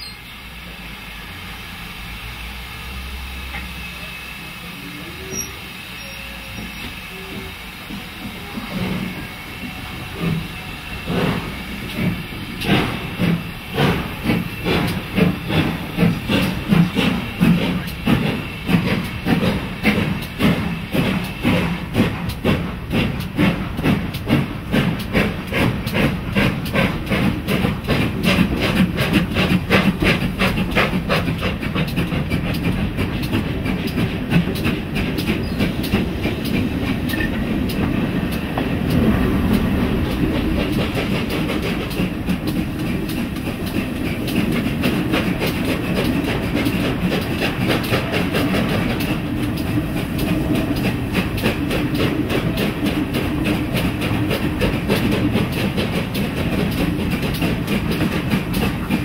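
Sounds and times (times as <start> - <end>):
steam locomotive beats: 0.0 - 59.0
train rumble: 0.0 - 59.0.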